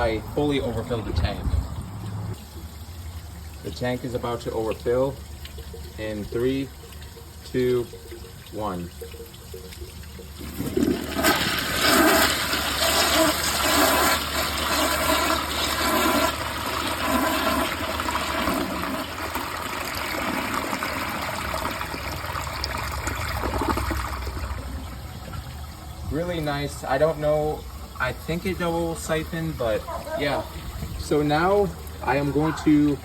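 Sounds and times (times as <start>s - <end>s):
toilet flushing: 0.0s - 33.0s
water gurgling: 0.0s - 33.0s.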